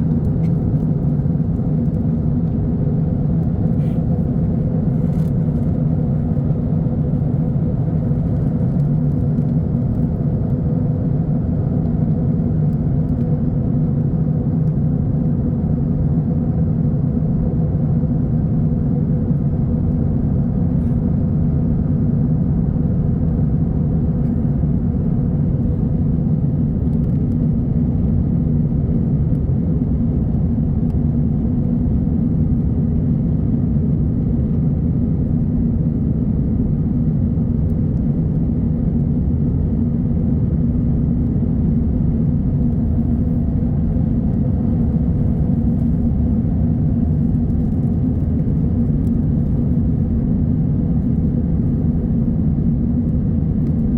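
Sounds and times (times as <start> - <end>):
jet airliner cabin drone: 0.0 - 53.9.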